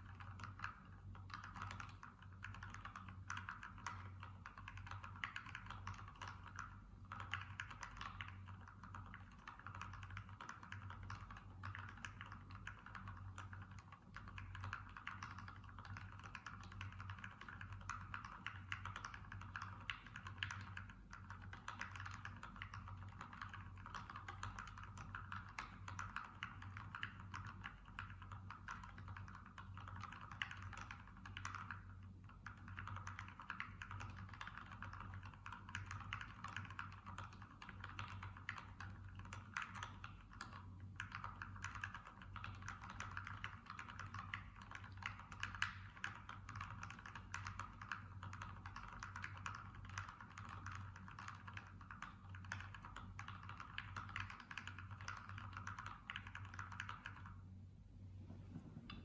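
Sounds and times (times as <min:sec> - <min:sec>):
fast typing on mechanical keyboard: 0:00.0 - 0:57.3.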